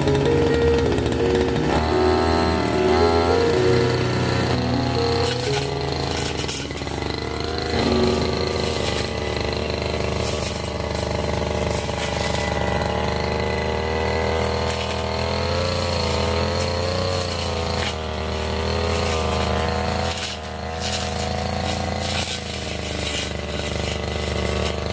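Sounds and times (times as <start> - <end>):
brush cutter engine running: 0.0 - 24.9.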